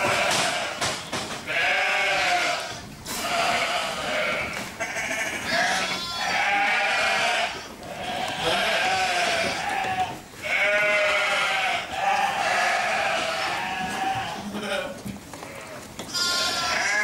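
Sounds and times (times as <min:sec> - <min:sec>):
sheep bleating: 0:00.0 - 0:00.8, 0:01.5 - 0:17.0.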